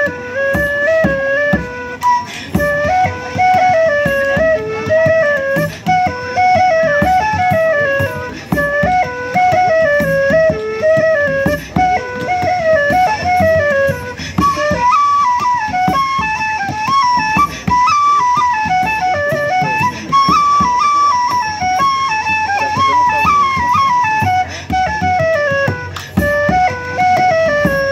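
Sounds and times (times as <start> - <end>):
flute melody: 0.0 - 27.9
folk band playing: 0.0 - 27.9.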